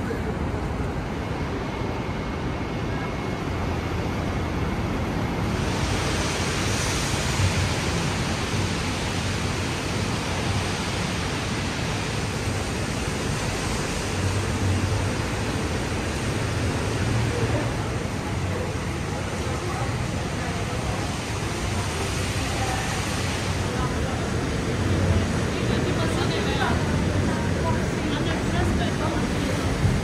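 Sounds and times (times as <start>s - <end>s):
passing traffic rushing: 5.3s - 30.0s.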